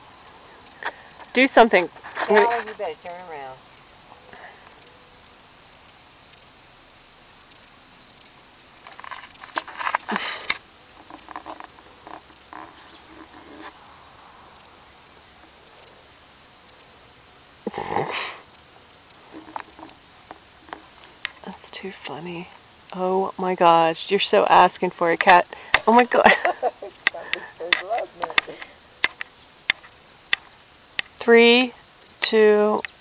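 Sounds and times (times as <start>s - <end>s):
insect chirping: 0.0s - 33.0s.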